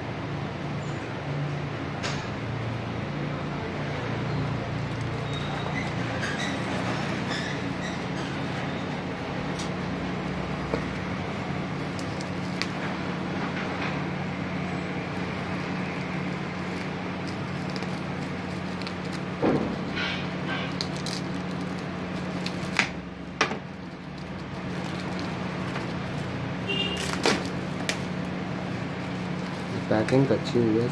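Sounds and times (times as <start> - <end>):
bubble wrap rustling and crinkling: 3.8 - 30.9
sharp crackles and clicks: 4.5 - 30.9.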